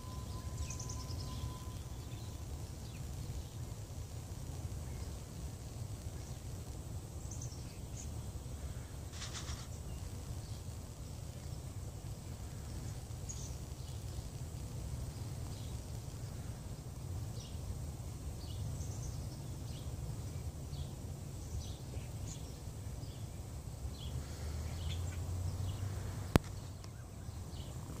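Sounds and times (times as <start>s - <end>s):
faint bird chirps: 0.0s - 14.3s, 18.3s - 28.0s.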